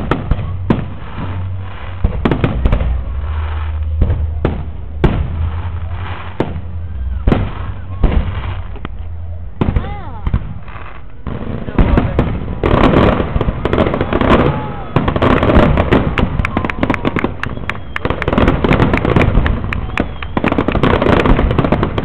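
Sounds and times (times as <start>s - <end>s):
fireworks bangs and crackling: 0.0s - 22.0s
fireworks whistling: 0.0s - 22.0s.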